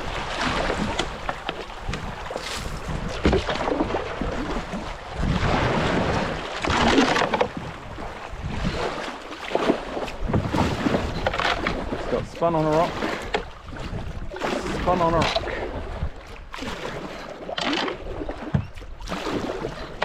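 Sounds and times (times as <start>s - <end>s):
paddle splashes: 0.0s - 20.0s
rushing water: 0.0s - 20.0s.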